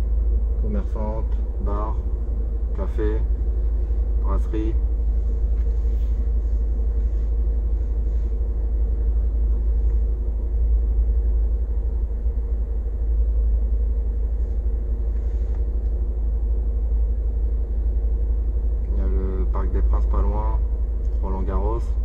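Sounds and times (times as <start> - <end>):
car engine rumble: 0.0 - 22.0
faint hum: 0.0 - 22.0.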